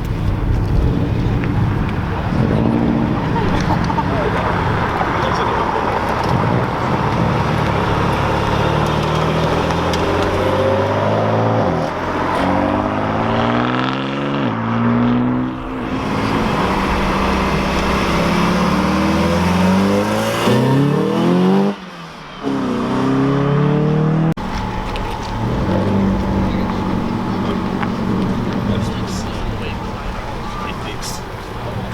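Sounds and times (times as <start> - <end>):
car engine revving: 0.0 - 31.9.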